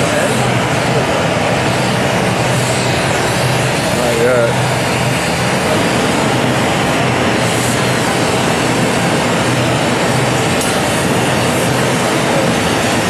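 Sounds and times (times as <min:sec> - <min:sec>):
gas torches roaring hiss: 0:00.0 - 0:13.0.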